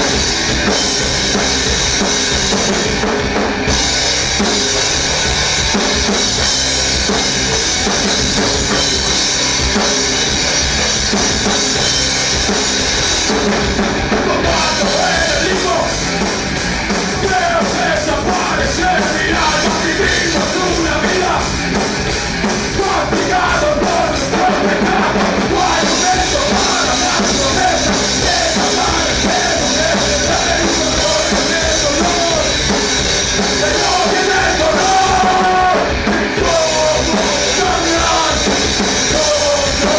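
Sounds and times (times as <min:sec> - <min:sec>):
drum kit: 0:00.0 - 0:39.9
metal band playing live: 0:00.0 - 0:39.9.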